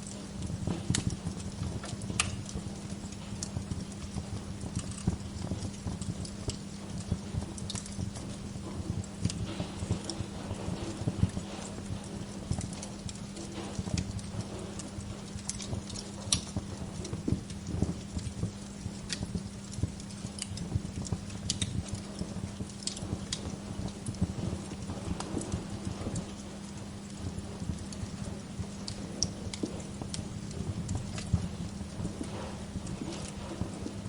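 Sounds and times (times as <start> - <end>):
steady low hum: 0.0 - 34.0
wood fire crackling and popping: 0.0 - 34.0.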